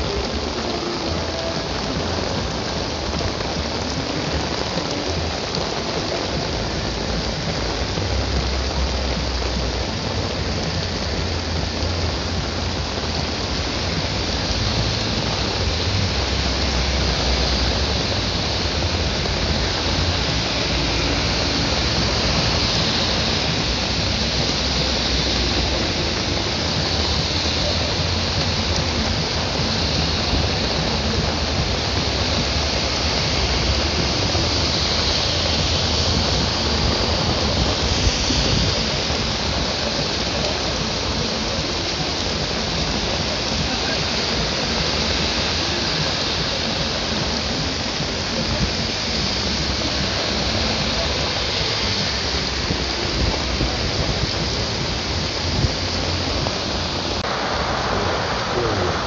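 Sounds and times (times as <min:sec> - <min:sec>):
heavy rain hissing: 0:00.0 - 0:59.0
low rumble: 0:00.0 - 0:59.0.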